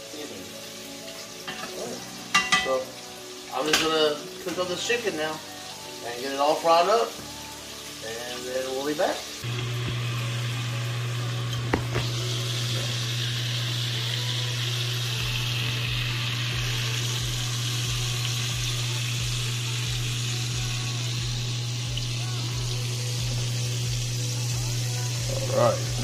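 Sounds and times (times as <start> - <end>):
oil sizzling and bubbling: 0.0 - 26.0.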